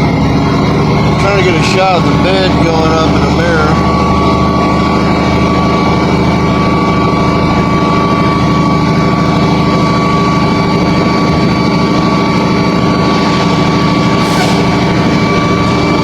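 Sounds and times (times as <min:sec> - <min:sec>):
diesel engine rumbling with whine: 0:00.0 - 0:16.0.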